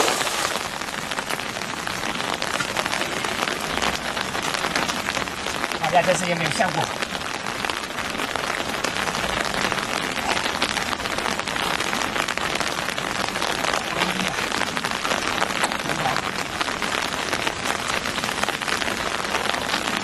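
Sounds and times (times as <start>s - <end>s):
floodwater rushing down canal: 0.0s - 20.0s.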